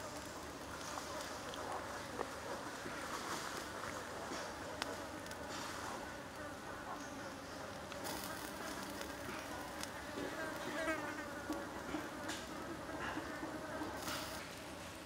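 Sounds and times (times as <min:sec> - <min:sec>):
insects buzzing: 0:00.0 - 0:14.7.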